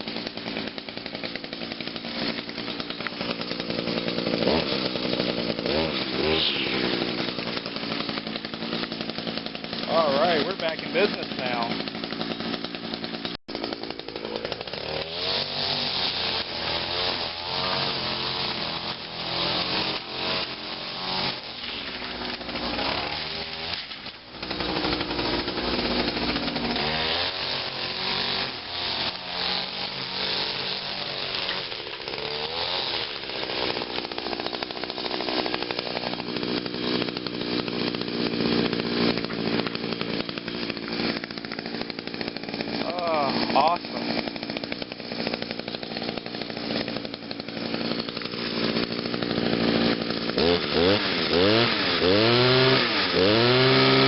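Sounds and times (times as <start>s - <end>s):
string trimmer engine revving: 0.0s - 54.0s.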